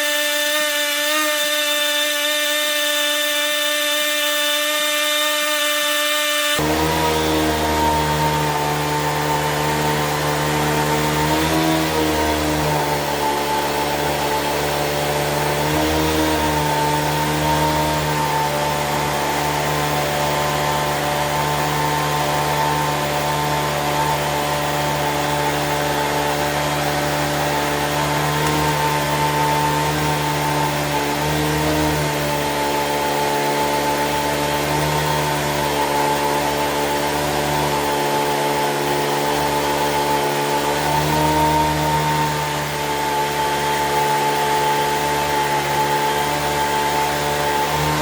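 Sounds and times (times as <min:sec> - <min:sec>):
electric motor whining: 0:00.0 - 0:48.0.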